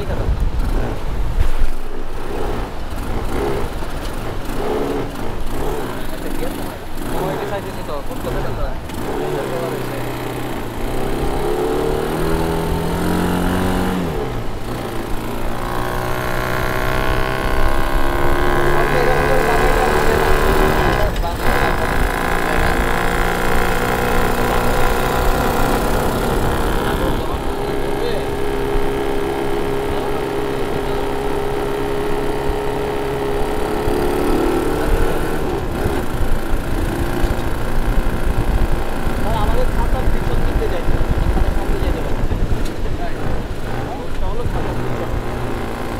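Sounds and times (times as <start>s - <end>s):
quad bike engine running: 0.0s - 45.9s
wind buffeting microphone: 0.0s - 45.9s.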